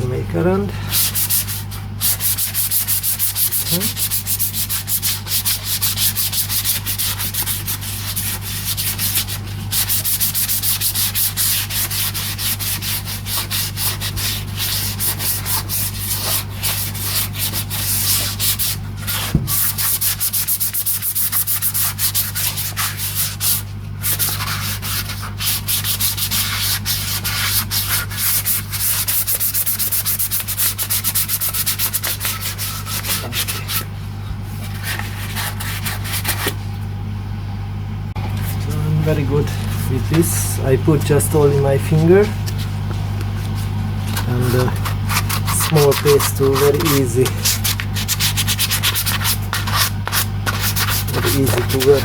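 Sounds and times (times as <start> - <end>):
low steady hum: 0.0 - 52.0
sandpaper rubbing on wood: 0.9 - 33.9, 34.5 - 36.6, 43.4 - 52.0.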